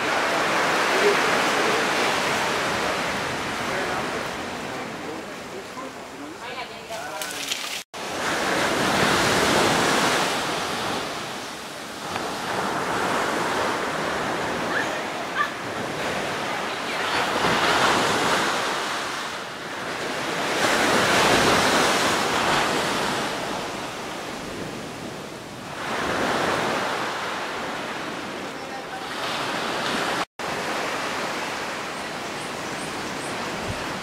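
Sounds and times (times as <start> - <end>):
surf breaking on a beach: 0.0 - 6.3, 7.0 - 34.0.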